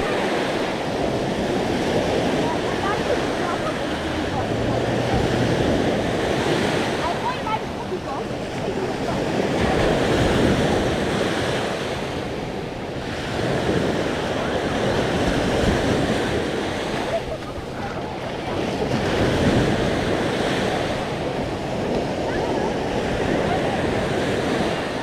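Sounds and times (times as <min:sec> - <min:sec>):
sea waves breaking on beach: 0:00.0 - 0:25.0
wind buffeting microphone: 0:00.0 - 0:25.0.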